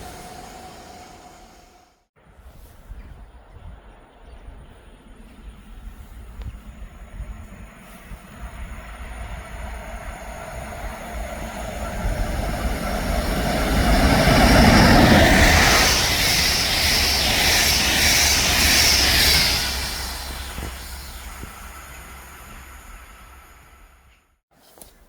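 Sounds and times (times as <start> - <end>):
train passing at speed: 0.0 - 24.4.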